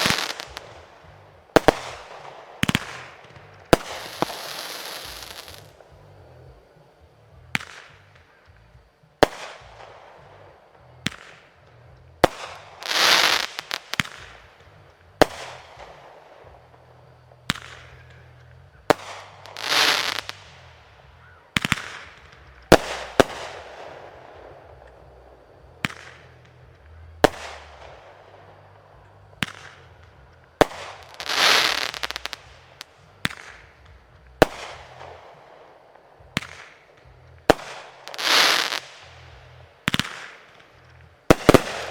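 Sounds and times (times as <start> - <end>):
hissing crackling firework bursts: 0.0 - 11.6, 12.2 - 41.9.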